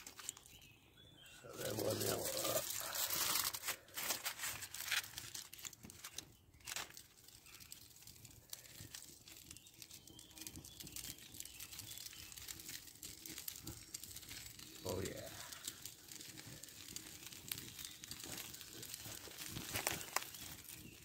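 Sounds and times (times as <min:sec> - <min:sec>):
food sizzling in foil: 0:00.0 - 0:00.6, 0:01.5 - 0:21.0
aluminium foil crinkling: 0:00.0 - 0:00.7, 0:01.5 - 0:21.0
fire crackling: 0:00.0 - 0:21.0.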